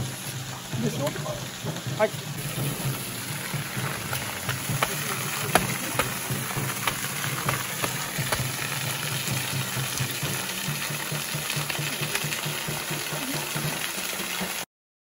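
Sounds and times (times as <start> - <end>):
waterfall splashing onto rock: 0.0 - 14.7.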